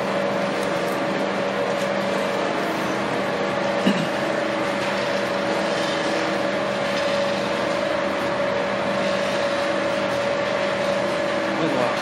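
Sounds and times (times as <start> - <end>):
constant mechanical whine: 0.0 - 12.0
conveyor mechanical hum: 0.0 - 12.0.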